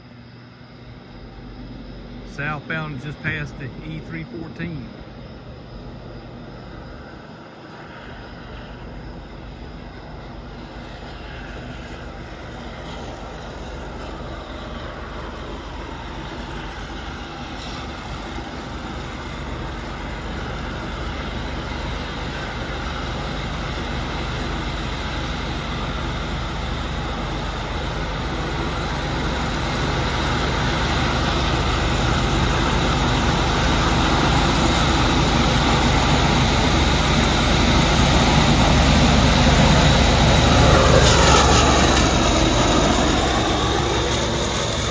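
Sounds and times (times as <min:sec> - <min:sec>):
diesel locomotives running: 0:00.0 - 0:44.9.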